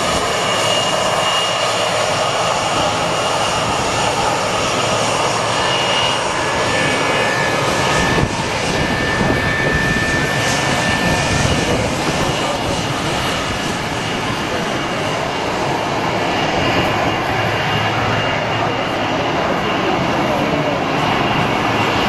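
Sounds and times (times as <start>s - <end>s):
jet engines rushing with high whine: 0.0s - 22.0s.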